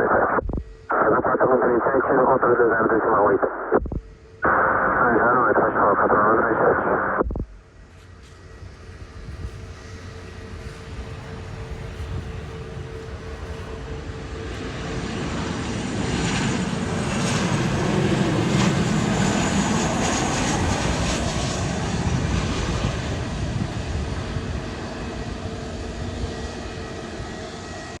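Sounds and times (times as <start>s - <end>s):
airliner jet engines passing: 4.2s - 28.0s.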